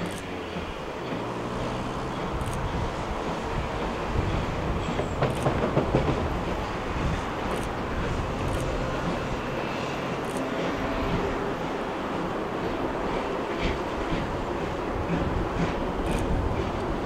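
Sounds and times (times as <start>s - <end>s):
steam locomotive rumbling: 0.0s - 17.0s.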